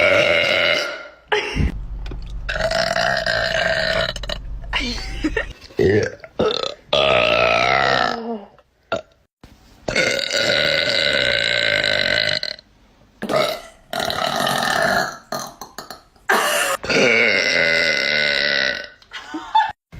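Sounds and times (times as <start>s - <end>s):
person burping: 0.0s - 1.8s, 2.5s - 9.2s, 9.9s - 12.6s, 13.2s - 19.0s.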